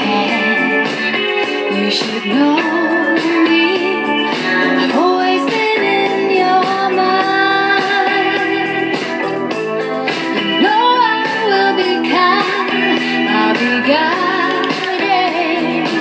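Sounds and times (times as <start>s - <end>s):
song with vocal over guitar: 0.0s - 16.0s.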